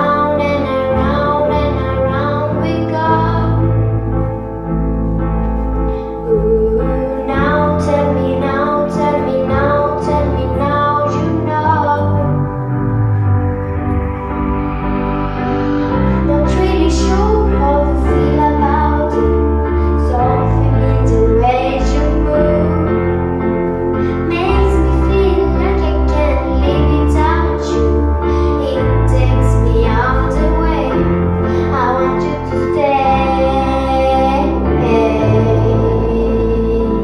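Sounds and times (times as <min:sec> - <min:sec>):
girl singing a slow song: 0:00.0 - 0:04.4, 0:05.7 - 0:12.6, 0:15.5 - 0:37.0
instrumental accompaniment: 0:00.0 - 0:37.0.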